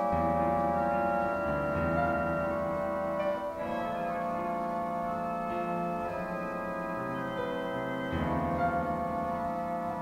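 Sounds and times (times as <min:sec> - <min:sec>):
organ-like keyboard chords: 0:00.0 - 0:10.0.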